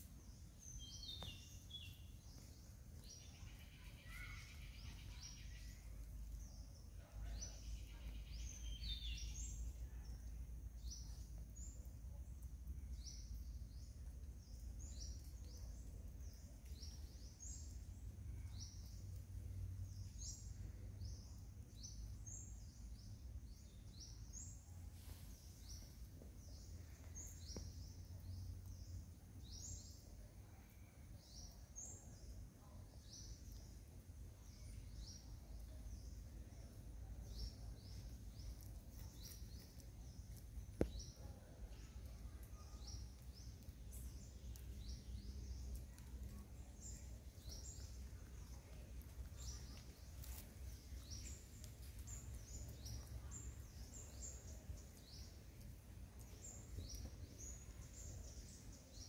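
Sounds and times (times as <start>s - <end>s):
birds chirping: 0.0s - 59.0s
low steady rumble: 9.2s - 59.0s.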